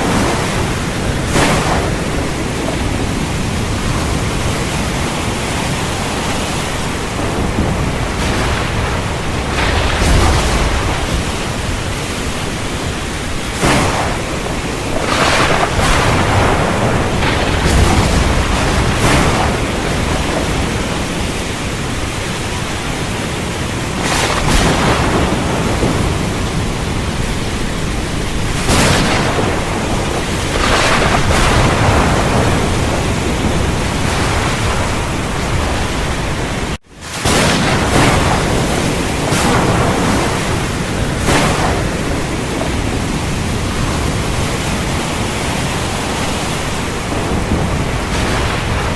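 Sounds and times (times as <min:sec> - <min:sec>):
heavy rain: 0:00.0 - 0:48.9
thunder rumbling: 0:00.0 - 0:48.9.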